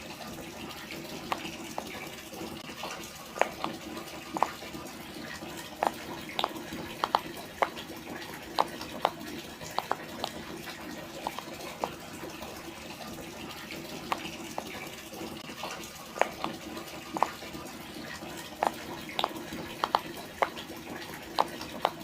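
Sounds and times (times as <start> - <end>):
fidget toy bubbles popping: 1.0 - 2.7, 3.3 - 12.7, 13.8 - 15.5, 16.2 - 22.0.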